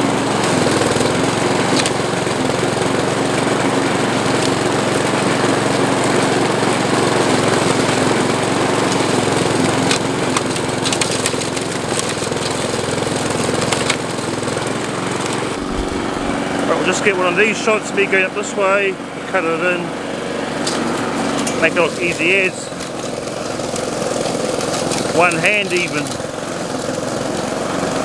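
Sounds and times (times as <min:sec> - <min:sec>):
lawn mower engine running: 0:00.0 - 0:28.0.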